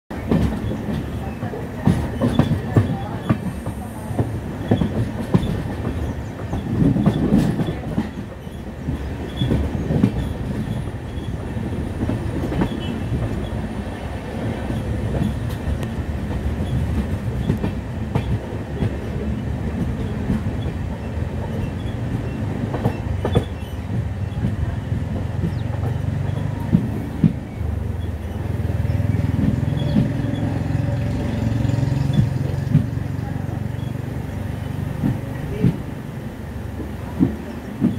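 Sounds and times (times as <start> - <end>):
clickety-clack from rail joints: 0.1 - 37.9
rumble of wheels on rail: 0.1 - 37.9.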